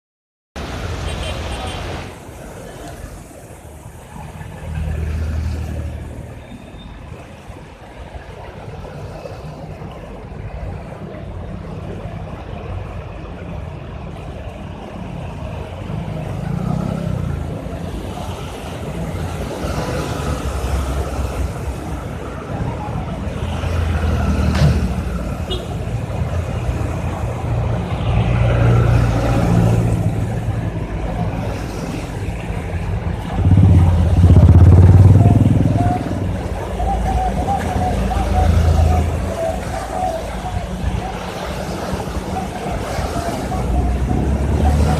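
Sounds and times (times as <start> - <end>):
vehicle engines passing: 0.6 - 44.9.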